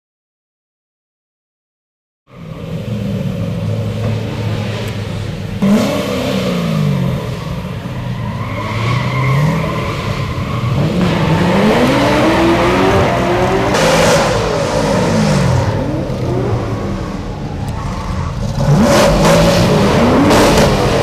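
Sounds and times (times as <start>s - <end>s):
car engine revving: 2.3s - 21.0s.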